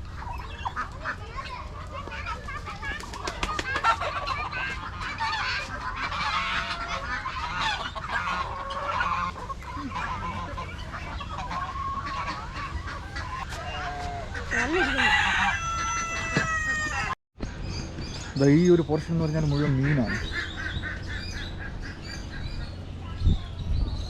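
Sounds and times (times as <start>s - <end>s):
poultry honking and clucking: 0.0s - 17.2s, 19.5s - 23.1s.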